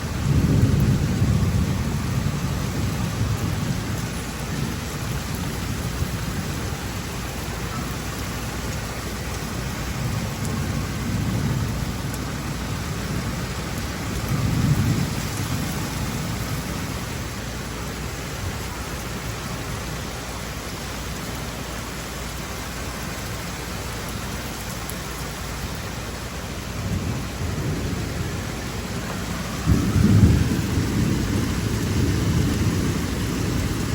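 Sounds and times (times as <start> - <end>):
steady rain pouring: 0.0 - 33.9.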